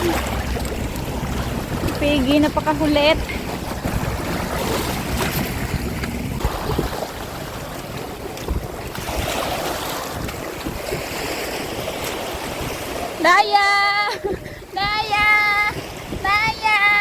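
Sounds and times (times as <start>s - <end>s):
sea waves washing on shore: 0.0s - 17.0s
wind rumbling on microphone: 0.0s - 17.0s.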